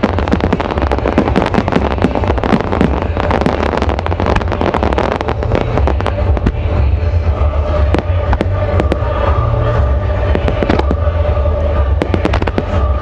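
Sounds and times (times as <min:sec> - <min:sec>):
fireworks bursting: 0:00.0 - 0:13.0
low rumble: 0:00.0 - 0:13.0.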